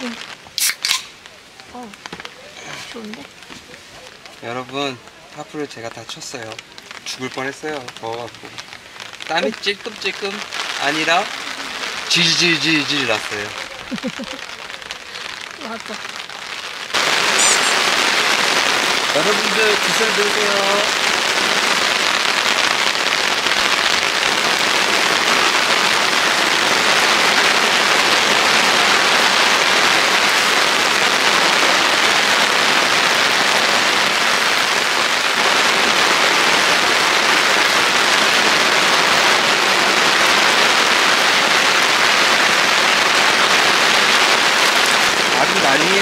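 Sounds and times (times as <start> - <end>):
rain falling steadily: 0.0 - 46.0.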